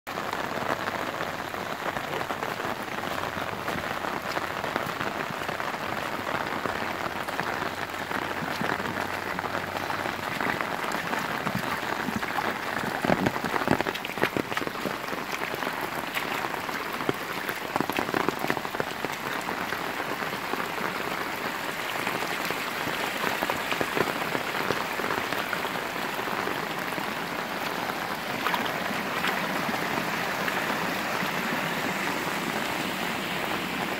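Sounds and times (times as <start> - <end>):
heavy rain on wet ground: 0.1 - 33.9.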